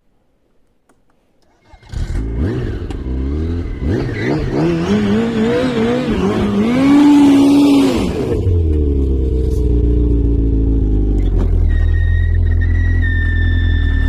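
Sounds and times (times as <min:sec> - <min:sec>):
vehicle engine idling and revving: 0:01.7 - 0:14.0.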